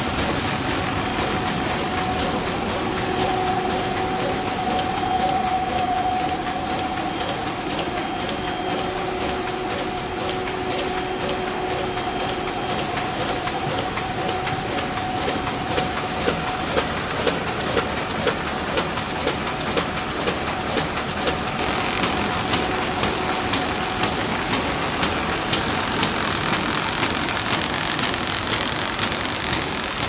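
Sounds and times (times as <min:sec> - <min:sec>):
machine humming: 0:00.0 - 0:30.0
sharp machine clicks: 0:00.0 - 0:30.0.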